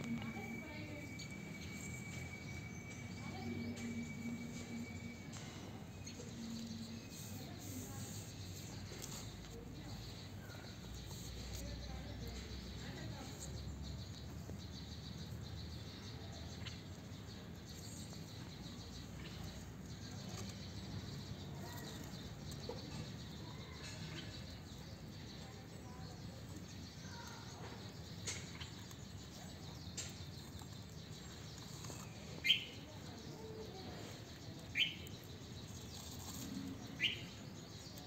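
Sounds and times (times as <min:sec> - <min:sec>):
faint outdoor background noise: 0:00.0 - 0:38.0.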